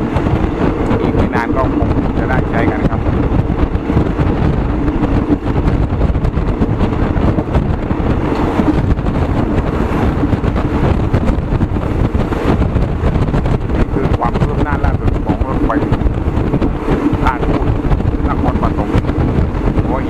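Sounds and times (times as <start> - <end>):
road vehicle rumble: 0.0 - 20.0
wind buffeting microphone: 0.0 - 20.0.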